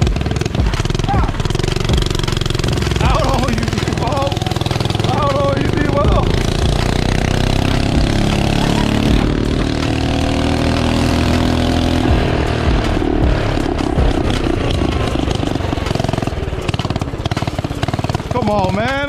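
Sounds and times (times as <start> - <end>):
small motorbike engine accelerating: 0.0 - 19.0.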